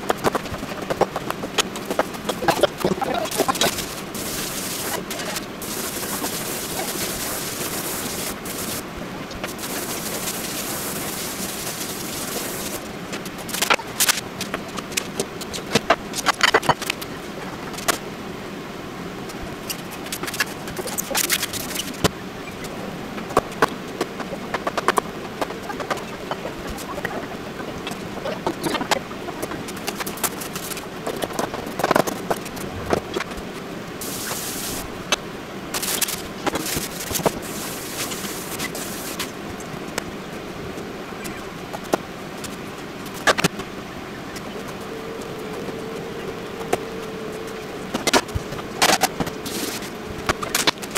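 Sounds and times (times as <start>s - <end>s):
steady background hiss: 0.0s - 50.9s.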